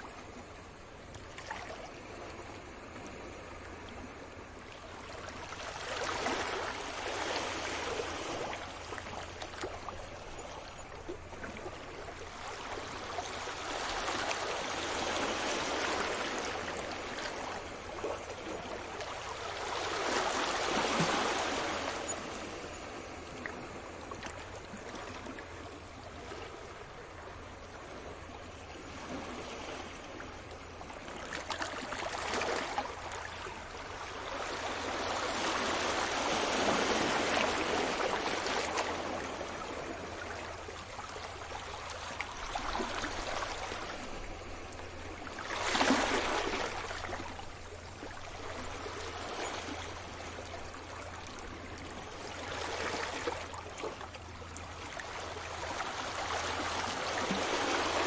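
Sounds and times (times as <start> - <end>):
sea waves washing on shore: 0.0 - 58.0.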